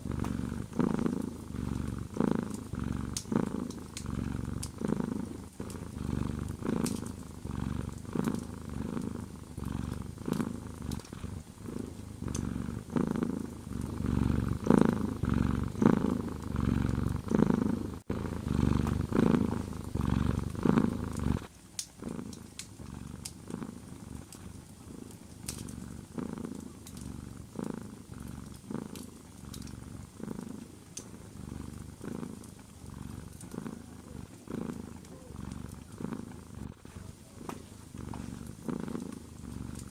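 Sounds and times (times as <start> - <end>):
cat purring: 0.0 - 39.9
wood fire crackling: 0.0 - 39.9.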